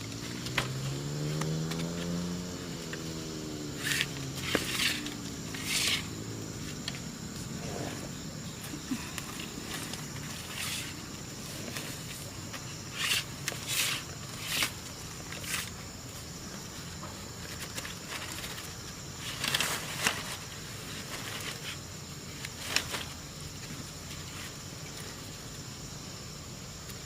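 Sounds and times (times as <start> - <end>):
outdoor background noise: 0.0 - 27.0
rustling in dry forest litter: 1.4 - 26.0.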